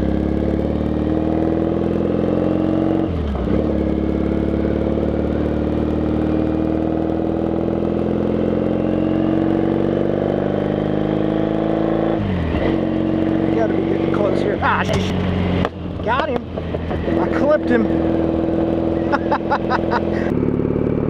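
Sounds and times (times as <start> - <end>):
motorcycle engine revving up: 0.0 - 21.0.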